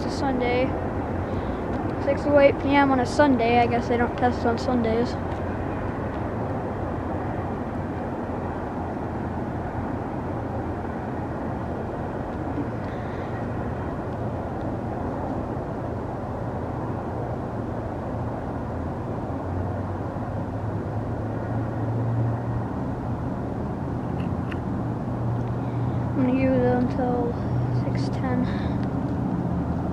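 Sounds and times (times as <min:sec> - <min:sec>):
low hum: 0:00.0 - 0:29.9
passing train rumble: 0:00.0 - 0:29.9.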